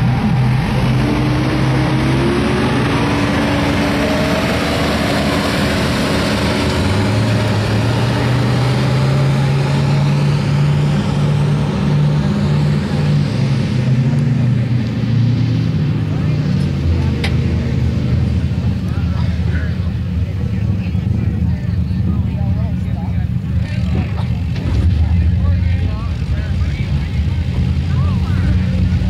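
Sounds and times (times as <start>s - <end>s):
truck engine running under load: 0.0s - 29.0s.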